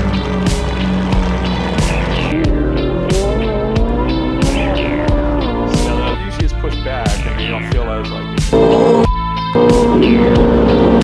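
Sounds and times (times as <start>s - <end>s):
music with sliding melody: 0.0s - 11.0s.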